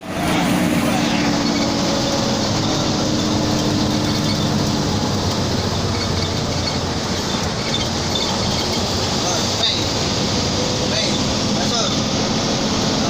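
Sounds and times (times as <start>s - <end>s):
bus engine drone: 0.0s - 13.0s
low engine tone: 0.0s - 13.0s
road noise: 0.0s - 13.0s.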